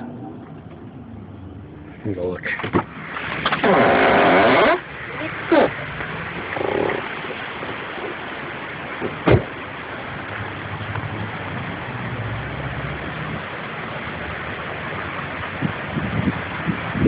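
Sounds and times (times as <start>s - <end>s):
creek rushing: 0.0s - 17.0s.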